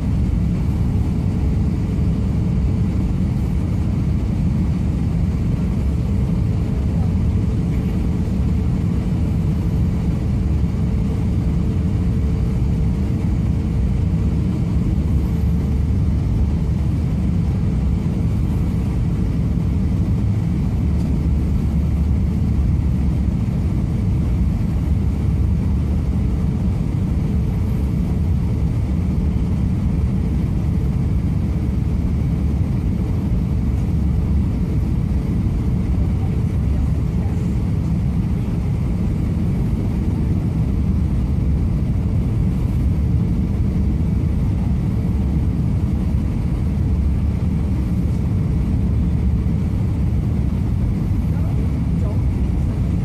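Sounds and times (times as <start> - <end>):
faint steady whine: 0.0 - 53.0
jet engines rumbling in cabin: 0.0 - 53.0.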